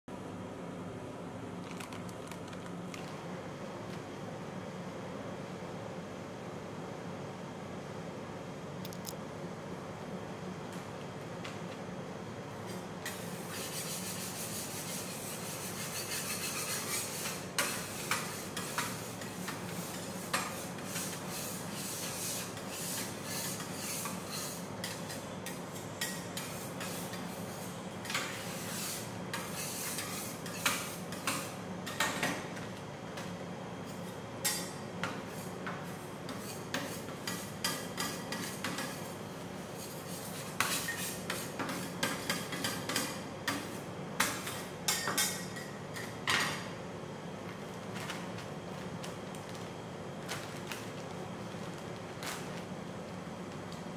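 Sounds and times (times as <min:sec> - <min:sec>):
steady low hum: 0:00.1 - 0:53.9.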